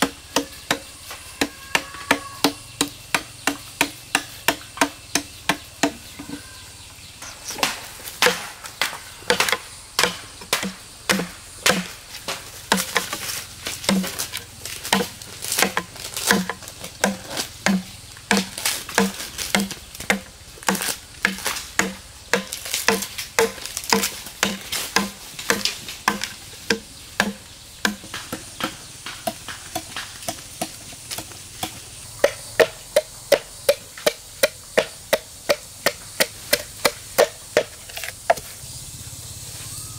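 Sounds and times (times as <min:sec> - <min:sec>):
machete chopping bamboo: 0:00.0 - 0:06.5, 0:07.4 - 0:38.5.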